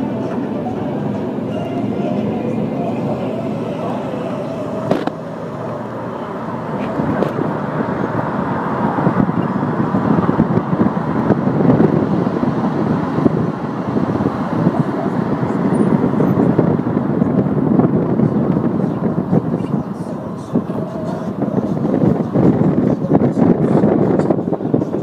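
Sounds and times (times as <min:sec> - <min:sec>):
passing traffic: 0:00.0 - 0:25.0
road and engine noise: 0:00.0 - 0:25.0.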